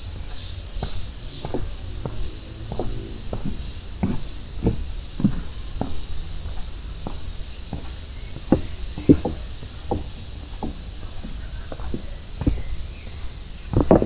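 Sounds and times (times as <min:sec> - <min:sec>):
footsteps walking: 0:00.0 - 0:14.0
steady high hiss: 0:00.0 - 0:14.0.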